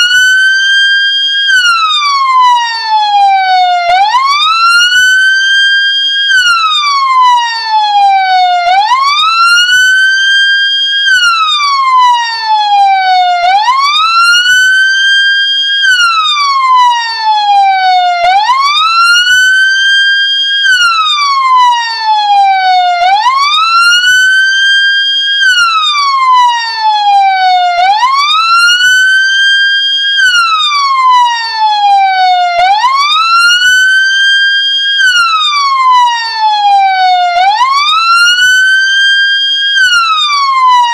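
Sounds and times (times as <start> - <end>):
ambulance siren wailing: 0.0 - 40.9.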